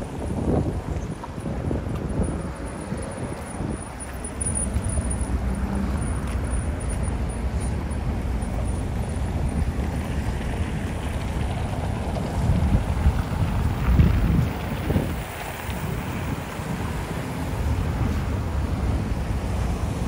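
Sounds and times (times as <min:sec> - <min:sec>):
cars driving on cobblestones: 0:00.0 - 0:20.0.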